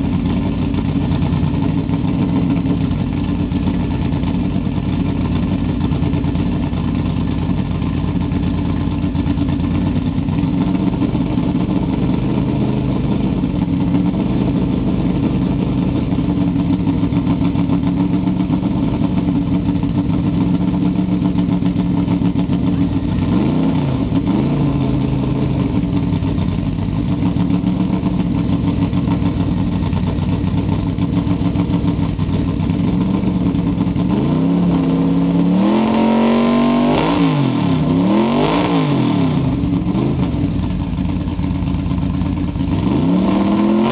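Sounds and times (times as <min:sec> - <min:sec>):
car engine idling loud: 0:00.0 - 0:43.9.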